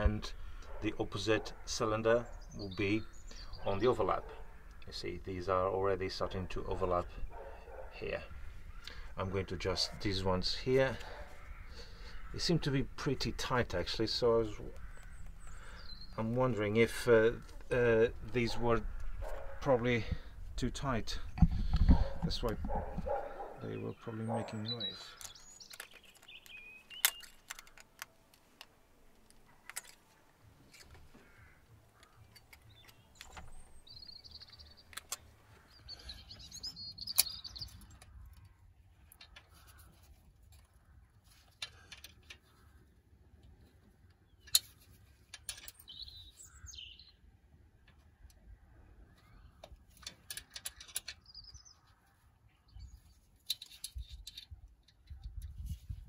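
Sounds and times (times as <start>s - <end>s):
birds chirping: 0.0s - 55.5s.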